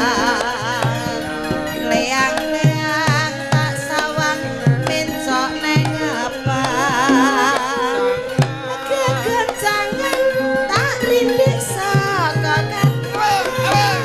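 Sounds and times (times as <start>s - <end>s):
hand drum beating: 0.0s - 14.0s
sustained pitched instruments: 0.0s - 14.0s
woman singing with vibrato: 0.0s - 14.0s.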